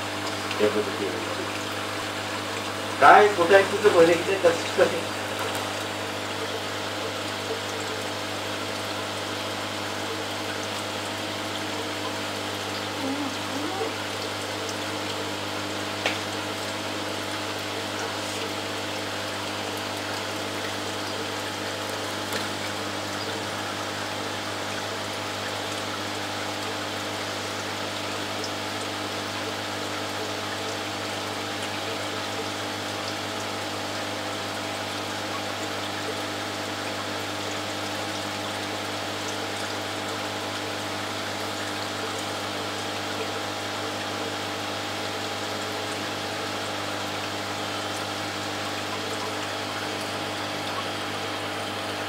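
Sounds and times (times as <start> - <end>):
circulating water rushing: 0.0 - 52.0
water pump hum: 0.0 - 52.0.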